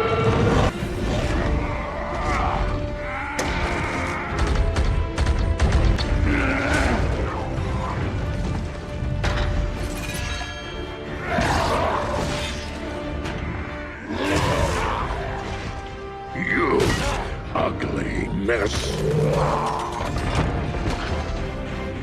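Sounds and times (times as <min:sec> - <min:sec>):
dramatic film score: 0:00.0 - 0:22.0.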